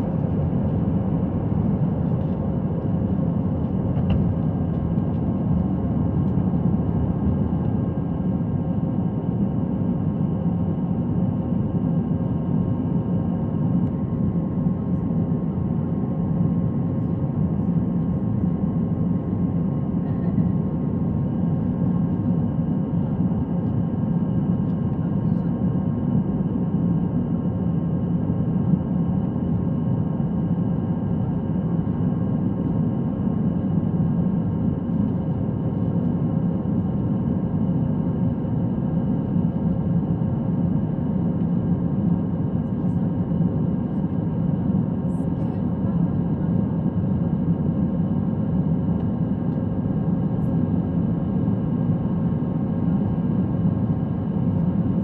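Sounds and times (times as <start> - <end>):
jet engine and airflow roar: 0.0 - 55.0.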